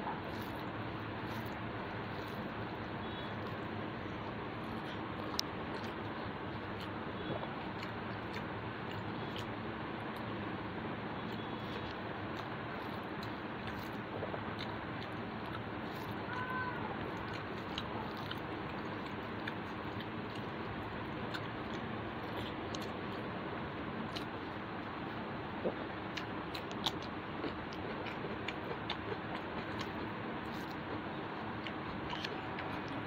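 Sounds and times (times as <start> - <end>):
soft chewing: 0.0 - 33.0.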